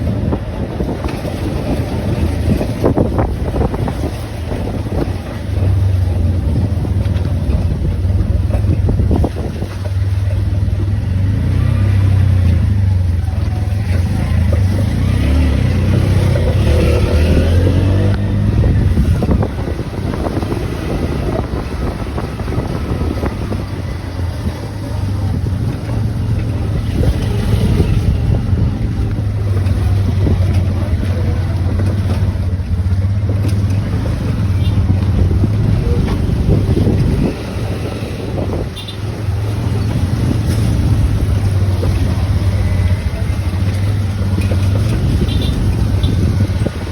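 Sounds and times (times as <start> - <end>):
vehicle engine and road rumble: 0.0 - 46.9
wind buffeting microphone: 0.0 - 46.9.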